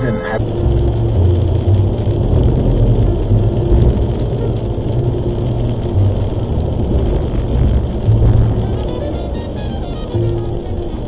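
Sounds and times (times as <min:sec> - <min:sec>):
car road and engine rumble: 0:00.0 - 0:11.0
heavy rain: 0:00.0 - 0:11.0.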